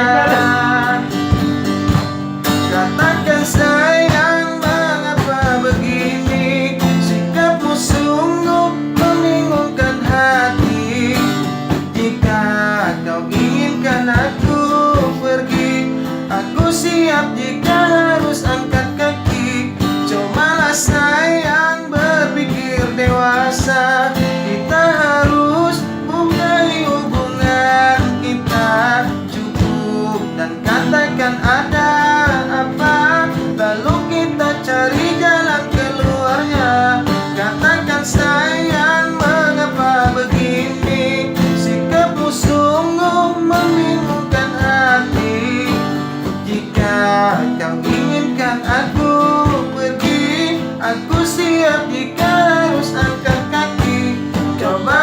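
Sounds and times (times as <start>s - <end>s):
acoustic guitar strumming: 0.0s - 55.0s
person singing: 0.0s - 55.0s.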